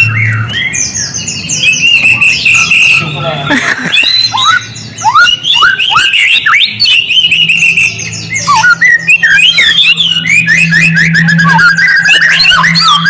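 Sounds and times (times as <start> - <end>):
bird singing whistles: 0.0 - 13.0.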